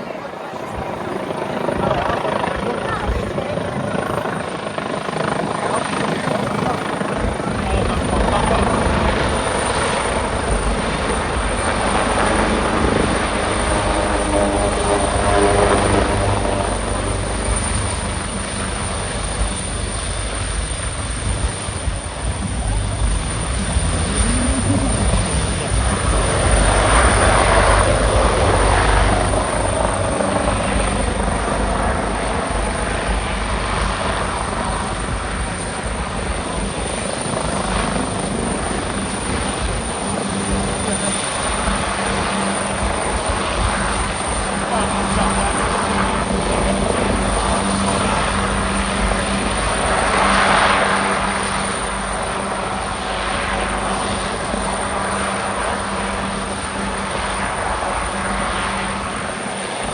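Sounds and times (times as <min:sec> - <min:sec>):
helicopter rotor beating: 0:00.0 - 0:59.9.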